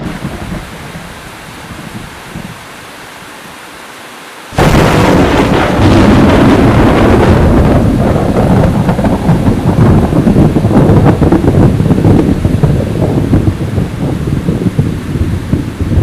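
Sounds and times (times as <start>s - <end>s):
thunder crack and rumble: 0.0s - 2.6s, 4.6s - 16.0s
heavy rain: 0.0s - 16.0s.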